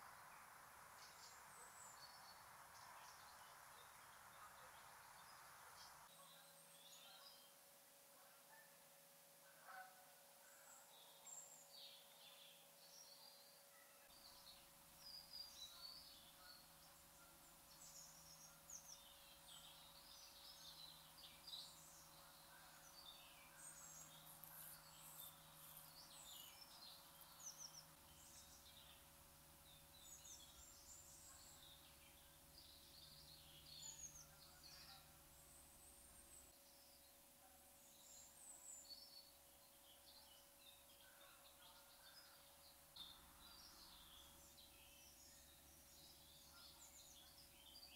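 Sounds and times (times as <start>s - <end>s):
background hiss: 0.0s - 47.9s
songbirds chirping: 0.0s - 47.9s.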